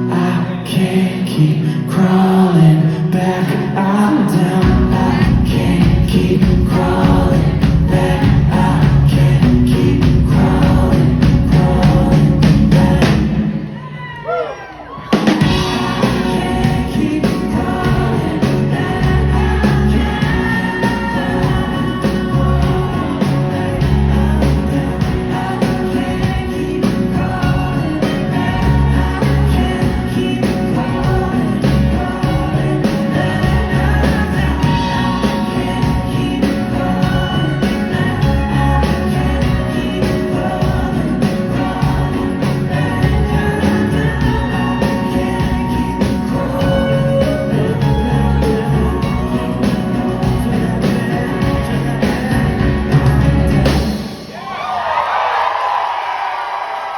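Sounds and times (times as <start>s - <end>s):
rock band playing loudly: 0.0s - 14.2s, 14.8s - 56.9s
person singing: 0.0s - 54.8s.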